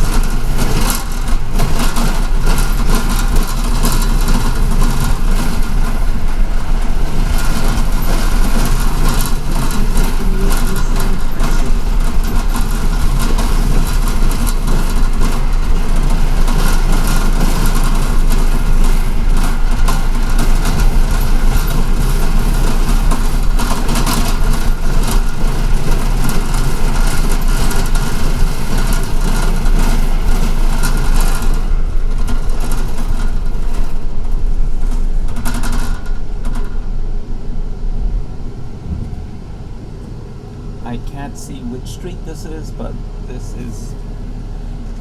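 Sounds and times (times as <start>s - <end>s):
bus engine drone: 0.0s - 45.0s
rattling in bus cabin: 0.0s - 45.0s.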